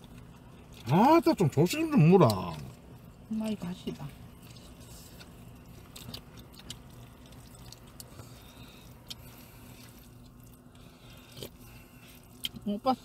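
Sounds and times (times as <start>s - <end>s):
faint chewing: 0.0s - 13.0s
steady low hum: 0.0s - 13.0s.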